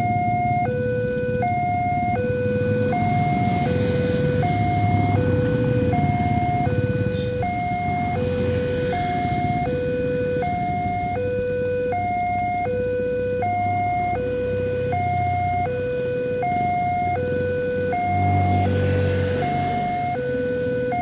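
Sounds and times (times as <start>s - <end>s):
two-tone level crossing siren: 0.0s - 21.0s.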